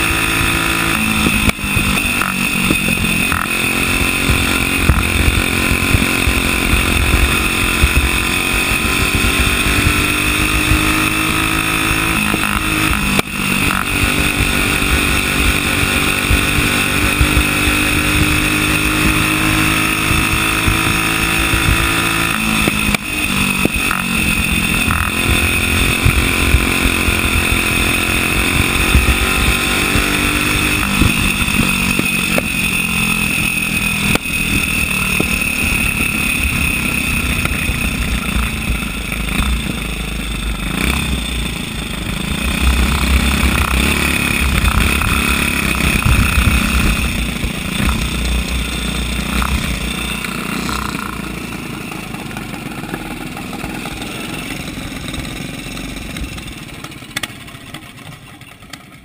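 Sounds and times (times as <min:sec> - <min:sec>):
kart engine at racing speed: 0:00.0 - 0:59.0.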